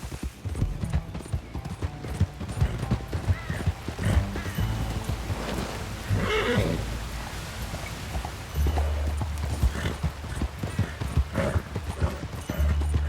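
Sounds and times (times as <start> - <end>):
horse hooves clip-clopping: 0.0 - 13.0
background music: 0.5 - 13.0.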